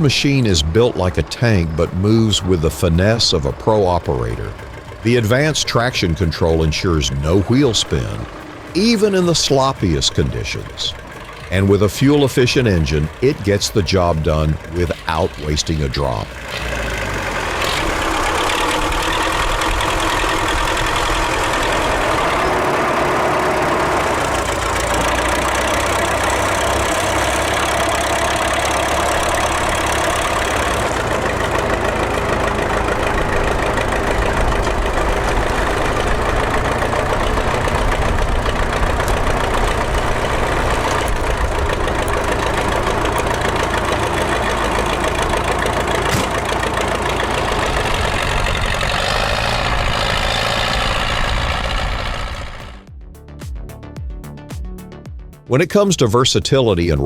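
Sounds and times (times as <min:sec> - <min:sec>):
heavy diesel engine running: 0:00.0 - 0:54.5.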